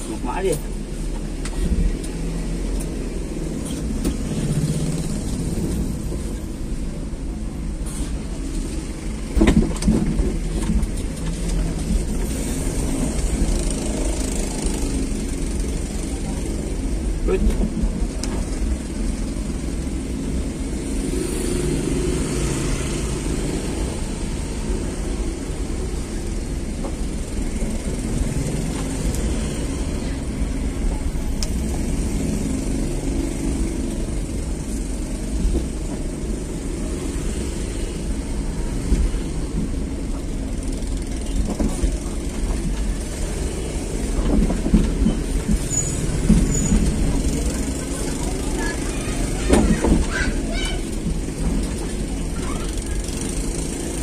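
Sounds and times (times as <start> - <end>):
vehicle engine and tyre rumble: 0.0 - 54.0.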